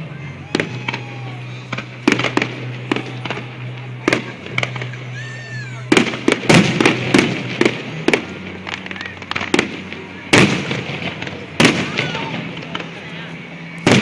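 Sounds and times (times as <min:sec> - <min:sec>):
fireworks bangs and crackles: 0:00.0 - 0:14.0
steady low hum: 0:00.0 - 0:14.0.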